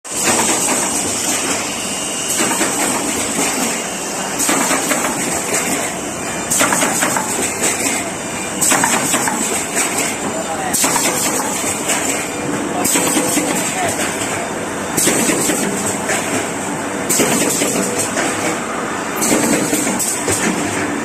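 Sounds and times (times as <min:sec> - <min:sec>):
machine mechanical clatter: 0:00.1 - 0:01.7, 0:02.3 - 0:21.0.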